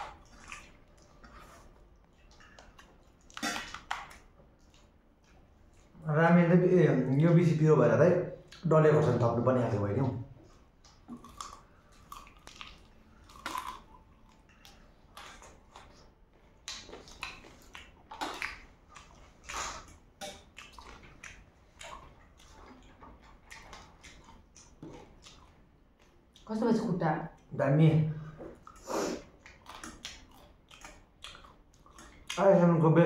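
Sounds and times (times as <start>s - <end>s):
wet chewing smacks and clicks: 0.0s - 6.0s, 8.4s - 8.7s, 10.4s - 26.6s, 28.5s - 32.7s.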